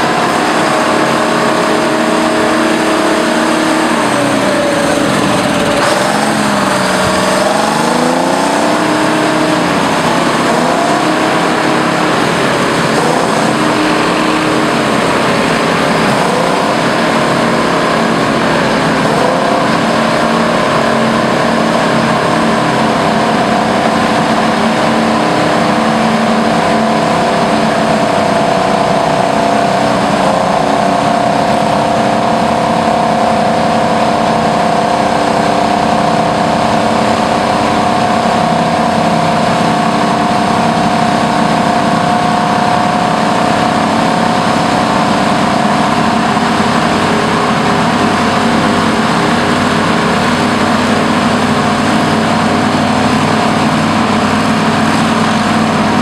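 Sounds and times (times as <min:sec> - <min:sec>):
bulldozer diesel engines droning: 0:00.0 - 0:56.0.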